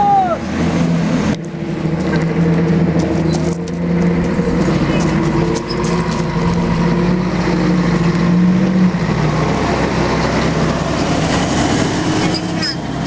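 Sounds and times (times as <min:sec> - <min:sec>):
bus engine running: 0:00.0 - 0:13.0
road noise: 0:00.0 - 0:13.0.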